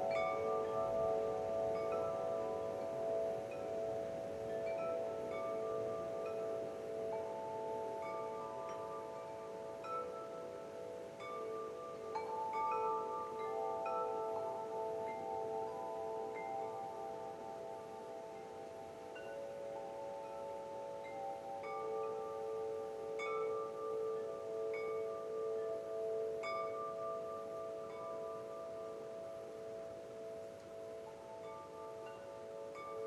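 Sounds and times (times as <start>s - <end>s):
wind chimes ringing: 0.0s - 33.0s.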